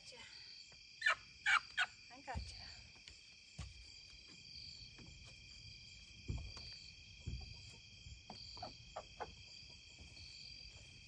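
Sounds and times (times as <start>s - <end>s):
crickets and insects chirping: 0.0s - 11.0s.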